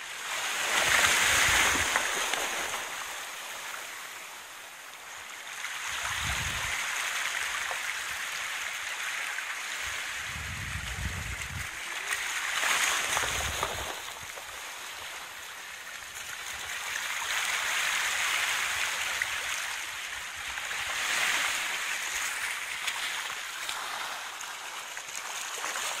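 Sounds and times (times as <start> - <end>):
water splashing and sloshing: 0.1 - 26.0.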